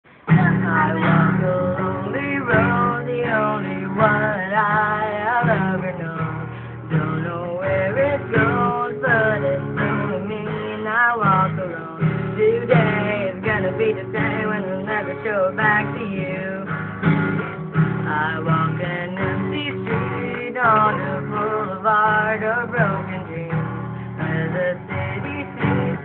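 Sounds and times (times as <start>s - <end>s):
strummed acoustic guitar: 0.1s - 26.0s
man singing: 0.2s - 16.8s, 18.0s - 26.0s.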